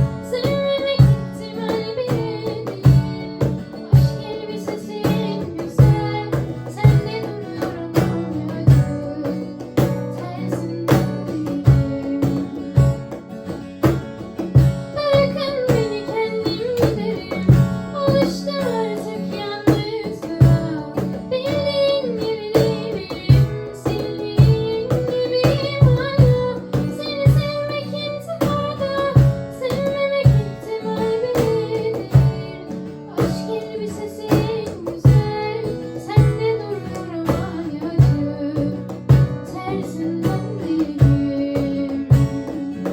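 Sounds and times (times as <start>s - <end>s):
cajon beat: 0.0s - 42.9s
strummed acoustic guitar: 0.0s - 42.9s.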